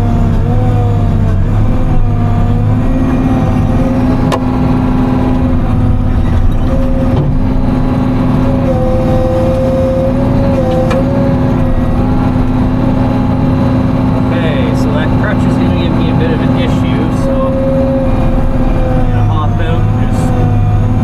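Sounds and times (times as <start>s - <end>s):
diesel engine running under load: 0.0s - 21.0s
wavering high tone: 0.5s - 21.0s.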